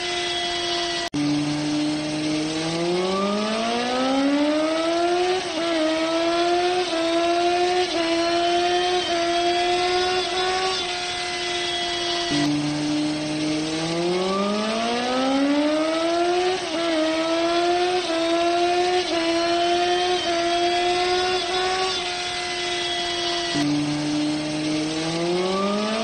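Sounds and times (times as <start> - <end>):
motorcycle engine at high speed: 0.0 - 26.0.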